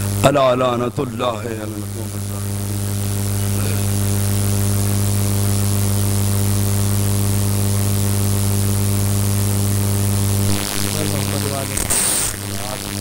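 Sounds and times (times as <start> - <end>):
buzzing mains hum: 0.0 - 13.0.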